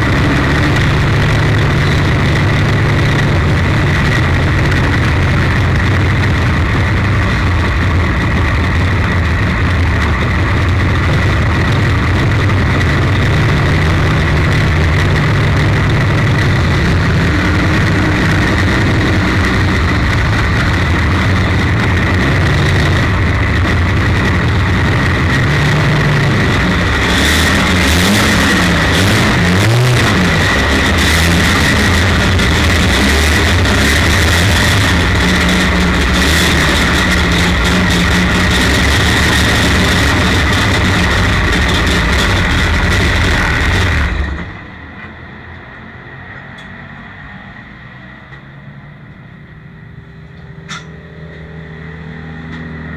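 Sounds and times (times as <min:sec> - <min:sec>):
race car engine running: 0:00.0 - 0:48.2.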